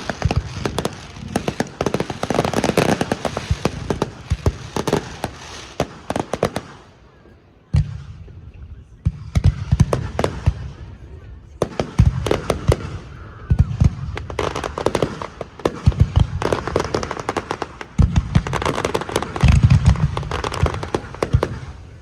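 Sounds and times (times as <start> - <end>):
fireworks crackling bangs: 0.0 - 7.0, 9.1 - 10.8, 11.6 - 22.0.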